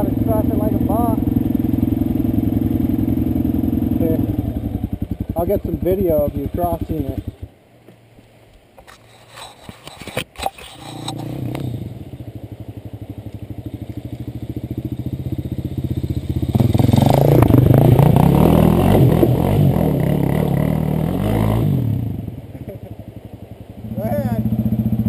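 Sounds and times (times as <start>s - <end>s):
dirt bike engine idling and revving: 0.0s - 7.6s, 10.7s - 25.0s.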